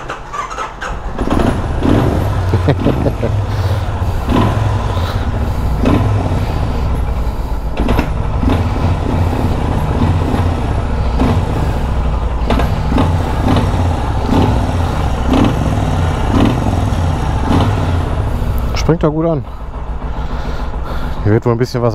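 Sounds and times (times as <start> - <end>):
engine popping: 0.0 - 21.9
motorcycle engine rumbling: 0.0 - 21.9.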